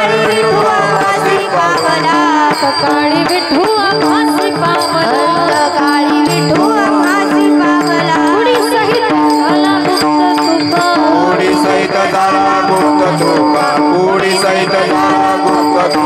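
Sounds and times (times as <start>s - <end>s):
steady percussion: 0.0s - 16.0s.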